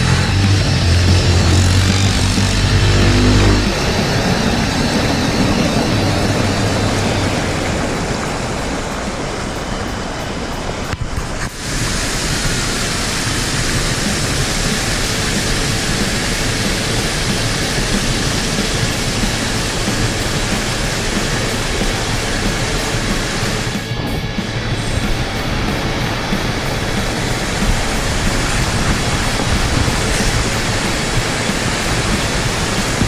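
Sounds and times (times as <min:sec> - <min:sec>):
music: 0:00.0 - 0:08.7, 0:12.2 - 0:33.0
waterfall rushing over rocks: 0:00.0 - 0:24.0, 0:24.6 - 0:33.0.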